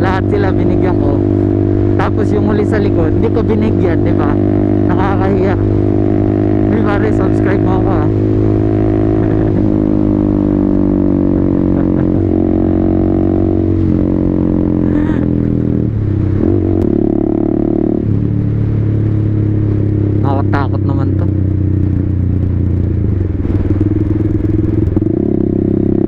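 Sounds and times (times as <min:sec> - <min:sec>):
motorcycle engine changing gears: 0:00.0 - 0:26.0.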